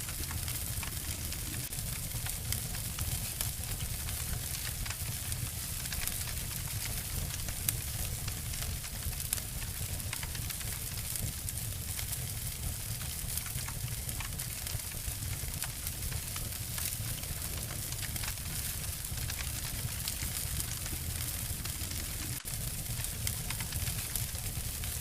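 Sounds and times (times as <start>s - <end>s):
fire crackles and pops: 0.0s - 25.0s
wood fire hissing and rumbling: 0.0s - 25.0s.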